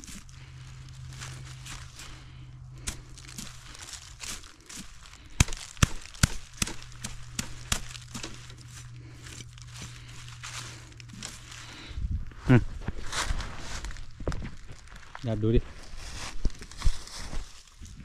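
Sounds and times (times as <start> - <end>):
dry leaves rustling and crackling: 0.0 - 12.0, 12.9 - 17.8
steady low hum: 0.0 - 18.0.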